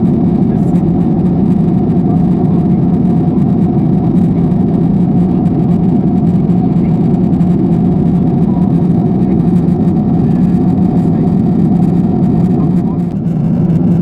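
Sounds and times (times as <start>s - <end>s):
airplane cabin engine roar: 0.0s - 14.0s
faint steady hum: 0.0s - 14.0s.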